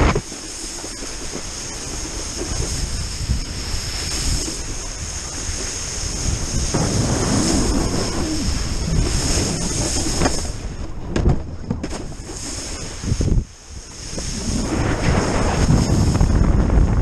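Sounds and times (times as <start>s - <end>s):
water rushing and spraying: 0.0s - 17.0s
wind buffeting microphone: 0.0s - 17.0s.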